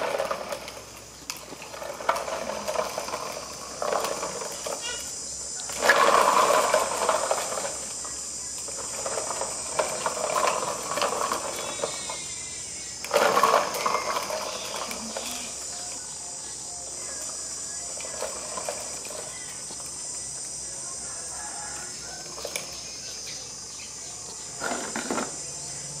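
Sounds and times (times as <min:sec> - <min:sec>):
plastic wheels rolling on concrete: 0:00.0 - 0:26.0.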